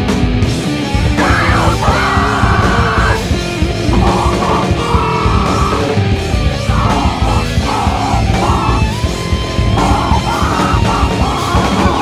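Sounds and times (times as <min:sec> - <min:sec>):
distorted guitar: 0:00.0 - 0:12.0
drums: 0:00.0 - 0:12.0
harsh shouted vocals: 0:01.0 - 0:12.0.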